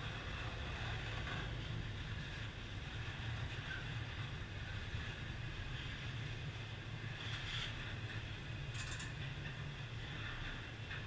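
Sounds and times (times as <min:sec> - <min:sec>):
freight train wheels rumbling on rail: 0:00.0 - 0:11.0.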